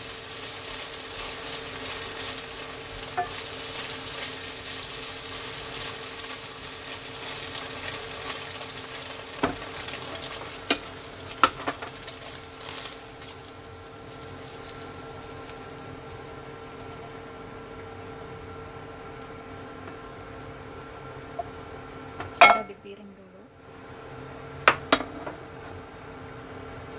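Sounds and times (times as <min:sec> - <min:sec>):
eggs sizzling in a wok: 0:00.0 - 0:26.9.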